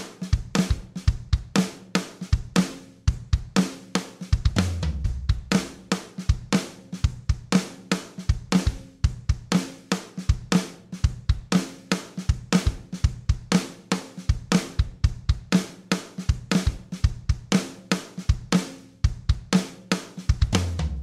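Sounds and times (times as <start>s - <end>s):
drum-led music: 0.0s - 21.0s.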